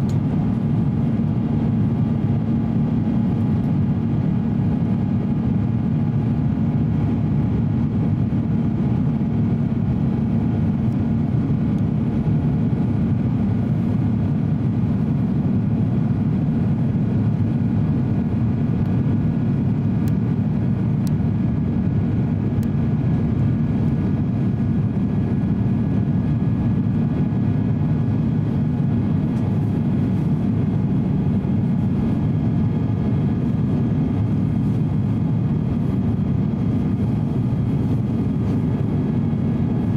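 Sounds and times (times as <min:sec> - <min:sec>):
airplane cabin drone: 0:00.0 - 0:39.9
faint hum tones: 0:00.0 - 0:39.9.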